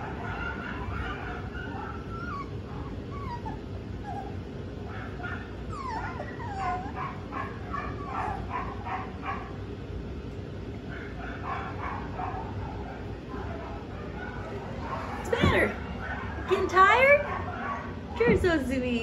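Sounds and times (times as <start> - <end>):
puppies whining: 0.0 - 9.6, 10.8 - 18.4
puppies yipping: 0.0 - 9.6, 10.9 - 18.3.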